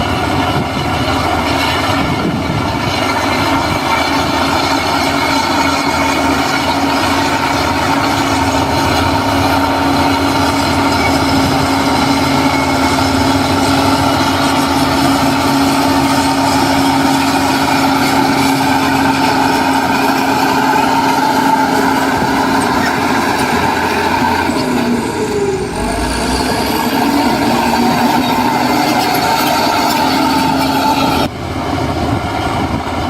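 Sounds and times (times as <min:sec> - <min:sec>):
diesel engine droning: 0:00.0 - 0:33.0.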